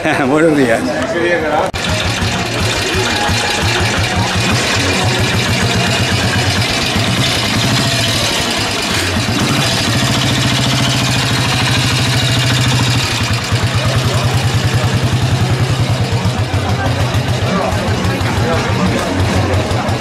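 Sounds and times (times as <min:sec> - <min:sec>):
motorcycle engine idling and pulling away: 0:01.8 - 0:20.0.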